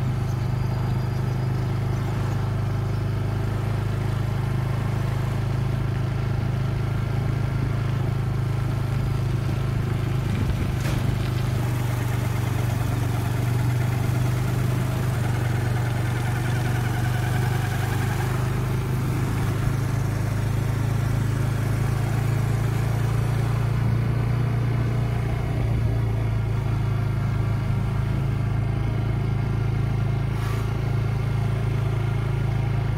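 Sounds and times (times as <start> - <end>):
vehicle engine humming while driving: 0.0 - 32.9.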